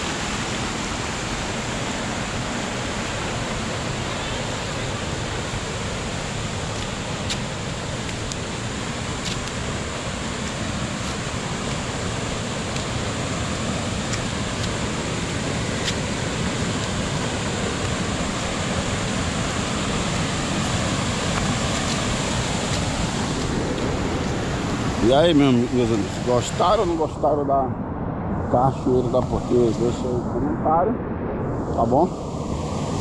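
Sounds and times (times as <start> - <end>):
waterfall rushing water: 0.0 - 27.6.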